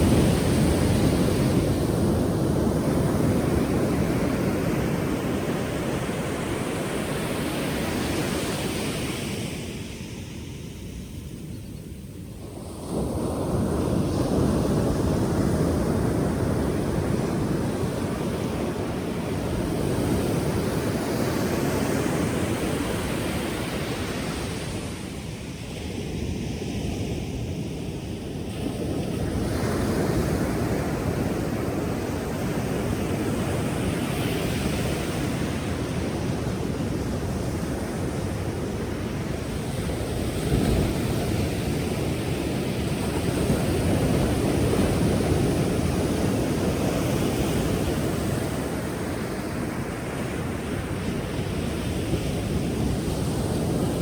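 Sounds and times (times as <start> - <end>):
ocean waves breaking: 0.0 - 11.1, 12.4 - 54.0.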